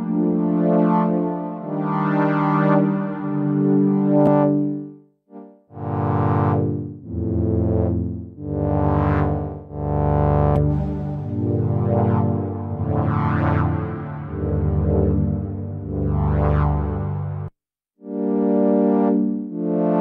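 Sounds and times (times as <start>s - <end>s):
synthesizer pad chords: 0.0s - 20.0s.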